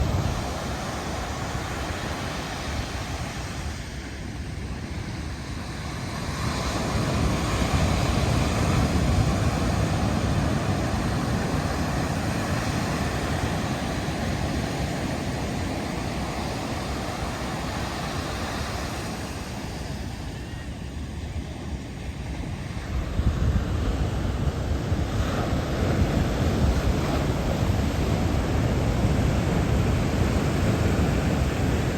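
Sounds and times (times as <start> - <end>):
ocean surf breaking on beach: 0.0 - 31.9
wind buffeting microphone: 0.0 - 31.9.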